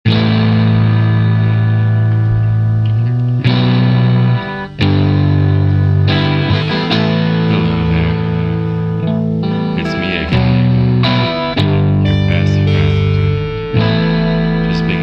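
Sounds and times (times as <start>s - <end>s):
distorted guitar chords: 0.0s - 15.0s.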